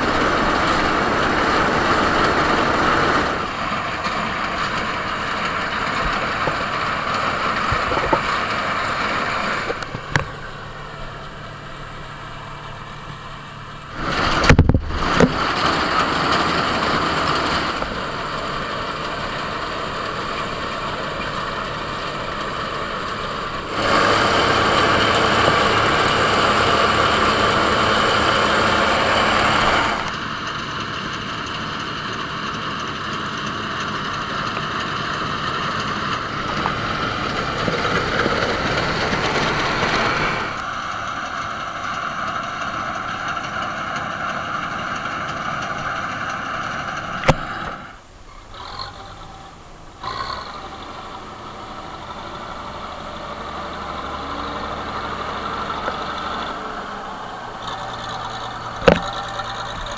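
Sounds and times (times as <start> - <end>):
diesel engine running: 0.0 - 59.9
threshing machinery whir: 0.0 - 59.9.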